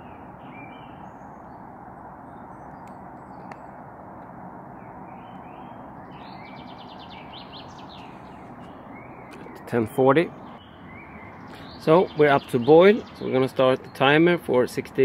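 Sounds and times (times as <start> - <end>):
bird trill: 0.0 - 3.7, 4.8 - 14.6
small birds chirping: 0.0 - 3.8, 4.8 - 15.0.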